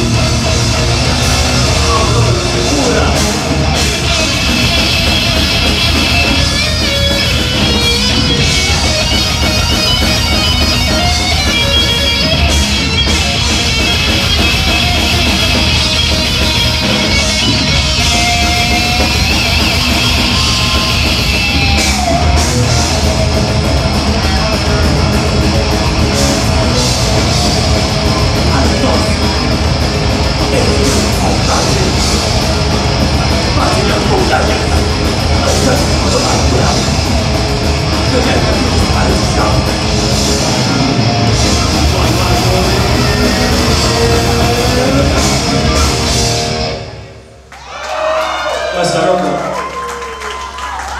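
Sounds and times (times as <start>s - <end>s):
drum kit: 0.0s - 47.1s
electric guitars: 0.0s - 50.9s.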